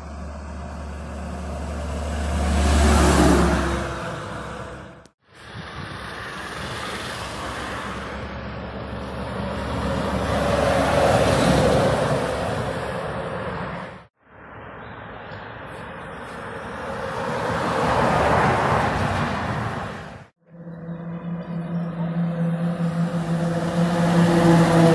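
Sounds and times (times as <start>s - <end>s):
heavy lorries driving past: 0.0s - 15.2s, 15.8s - 24.9s.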